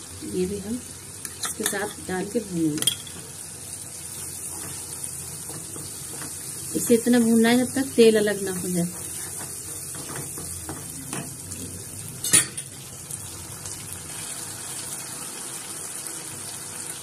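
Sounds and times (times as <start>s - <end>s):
masala sizzling in a pan: 0.0s - 17.0s.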